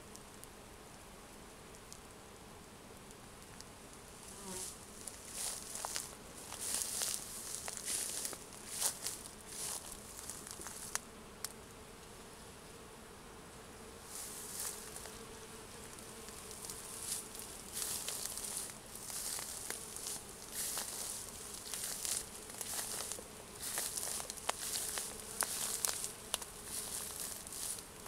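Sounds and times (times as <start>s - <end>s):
bees buzzing: 4.0s - 28.0s.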